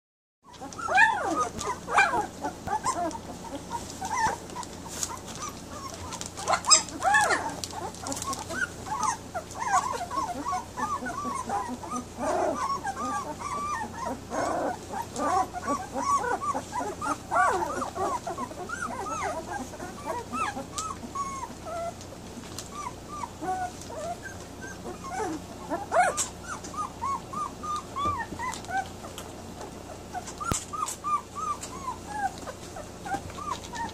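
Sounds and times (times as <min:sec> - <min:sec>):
puppies whining and squeaking: 0:00.4 - 0:33.9.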